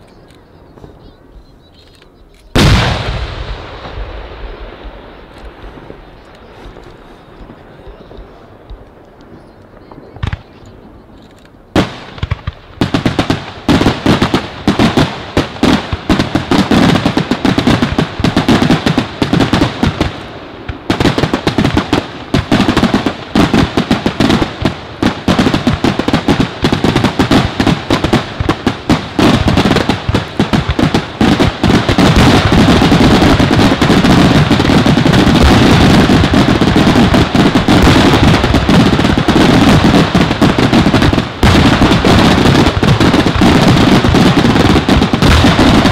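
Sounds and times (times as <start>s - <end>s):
fireworks bursting: 2.2s - 45.9s.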